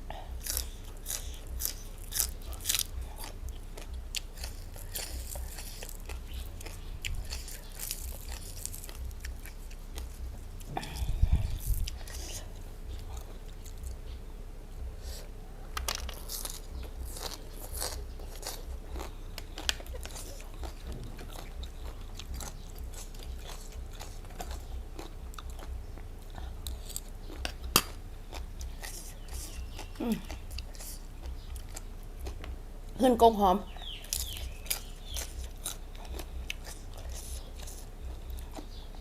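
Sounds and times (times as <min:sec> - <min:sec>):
crunching raw vegetables: 0:00.1 - 0:14.1, 0:15.0 - 0:33.0, 0:33.7 - 0:39.0.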